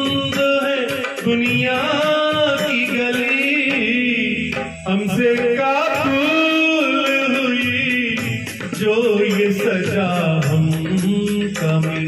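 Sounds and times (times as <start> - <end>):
musical accompaniment: 0.0 - 12.0.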